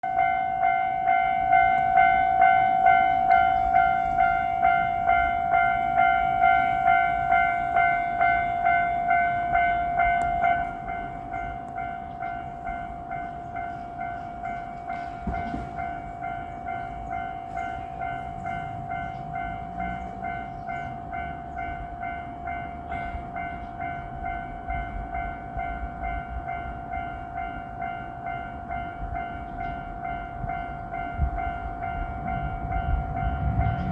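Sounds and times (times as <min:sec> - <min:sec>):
railroad crossing warning bell: 0:00.0 - 0:33.9.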